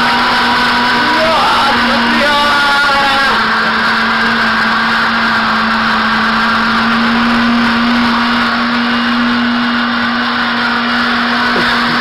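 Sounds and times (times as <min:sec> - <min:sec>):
blender motor whirring: 0:00.0 - 0:12.0.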